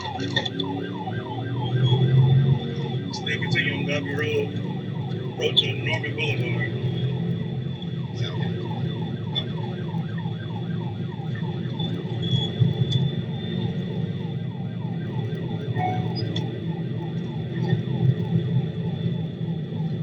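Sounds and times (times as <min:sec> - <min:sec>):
police siren yelping: 0:00.0 - 0:20.0.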